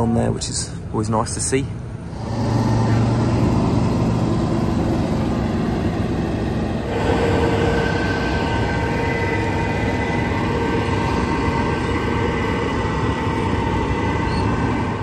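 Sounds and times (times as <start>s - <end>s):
tractor running under load: 0.0s - 15.0s
machinery whining tones: 1.8s - 15.0s.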